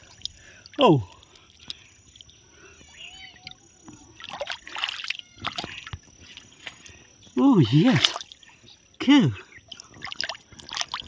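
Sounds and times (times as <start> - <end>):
shallow water splashing: 0.0 - 11.0.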